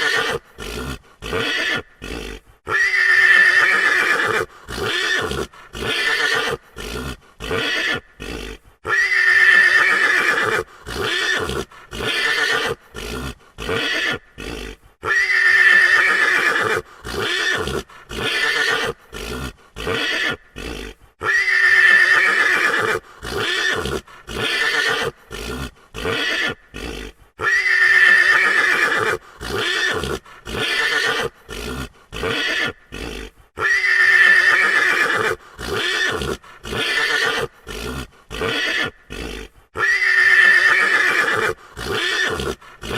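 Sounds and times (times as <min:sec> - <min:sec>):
horse neighing: 0:00.0 - 0:42.9.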